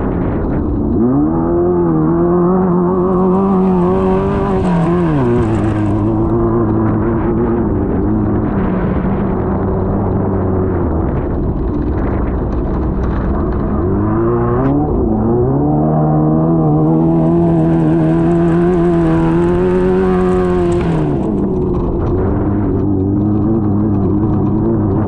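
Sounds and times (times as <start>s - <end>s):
race car engine running hard: 0.0s - 25.0s.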